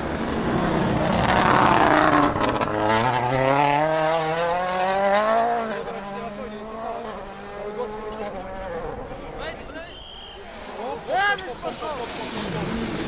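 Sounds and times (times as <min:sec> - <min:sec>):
rally car engine accelerating: 0:00.0 - 0:09.4, 0:11.8 - 0:13.0.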